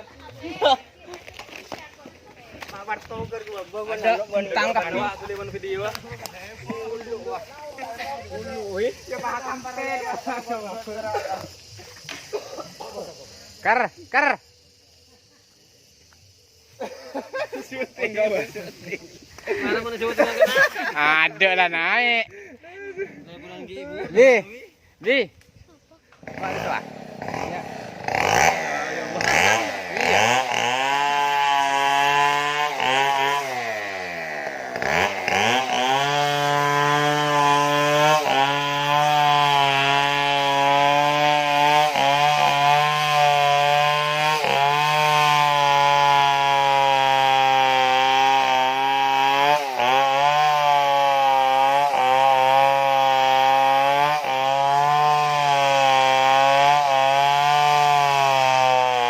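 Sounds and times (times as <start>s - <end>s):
chainsaw cutting wood: 0.0s - 15.1s, 15.8s - 22.1s, 26.1s - 59.0s
chainsaw engine revving: 0.1s - 15.1s, 15.8s - 22.4s, 26.1s - 59.0s.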